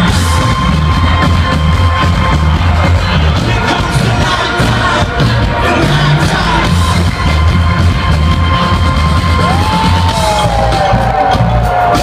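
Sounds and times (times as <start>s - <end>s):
heavy pulsing bass line: 0.0s - 12.0s
live rock music: 0.0s - 12.0s.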